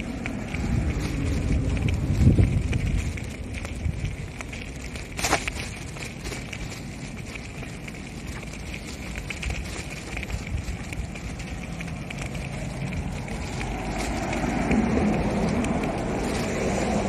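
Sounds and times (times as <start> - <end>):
low engine-like rumble: 0.0 - 17.0
small clicks and rattles: 0.0 - 17.0
wind on microphone: 0.0 - 17.0.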